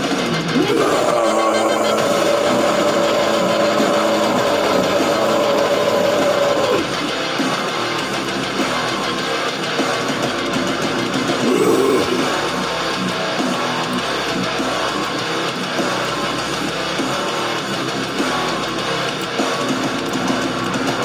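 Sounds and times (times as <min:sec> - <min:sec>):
heavy metal music: 0:00.0 - 0:21.0.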